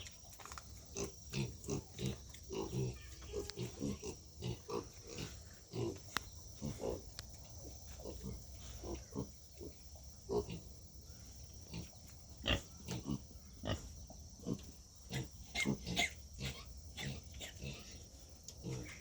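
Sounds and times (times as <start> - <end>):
pigs grunting: 0.9 - 7.1, 7.9 - 10.7, 11.6 - 19.0.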